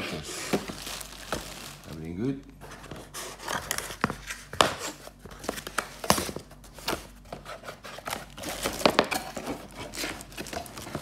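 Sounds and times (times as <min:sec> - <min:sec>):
cardboard scraping and rustling: 0:00.0 - 0:11.0.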